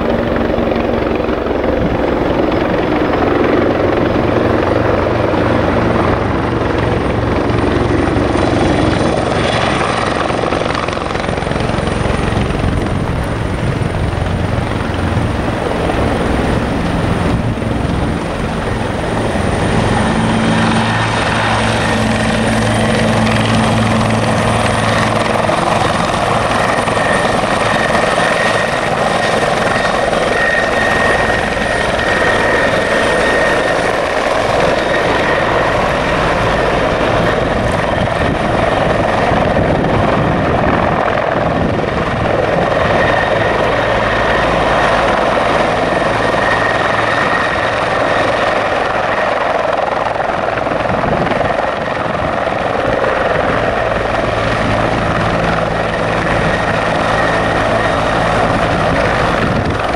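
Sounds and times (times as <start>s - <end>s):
helicopter rotor and engines: 0.0s - 59.9s
high turbine whine: 0.0s - 59.9s.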